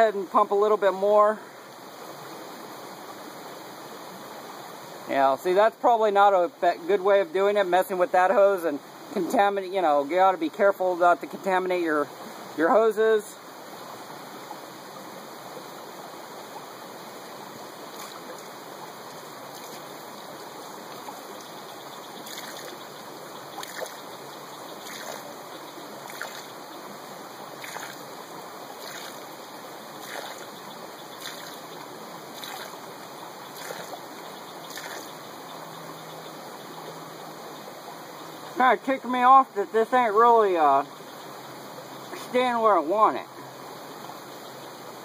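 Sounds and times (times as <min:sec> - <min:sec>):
stream running: 0:00.0 - 0:45.0.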